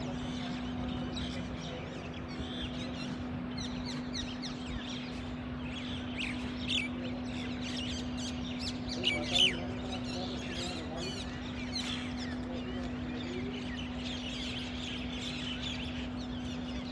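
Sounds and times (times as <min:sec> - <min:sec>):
birds chirping and twittering: 0:00.0 - 0:16.9
steady low hum: 0:00.0 - 0:16.9.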